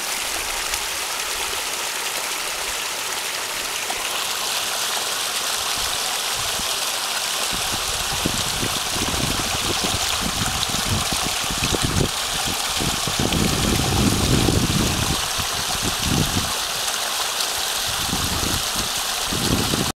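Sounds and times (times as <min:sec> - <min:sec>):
water rushing and splashing: 0:00.0 - 0:19.9.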